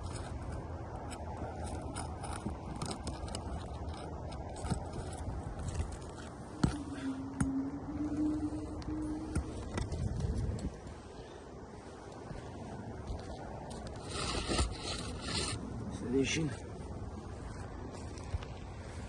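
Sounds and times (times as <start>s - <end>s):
scraping: 0.0s - 15.8s
steady low hum: 0.0s - 19.0s.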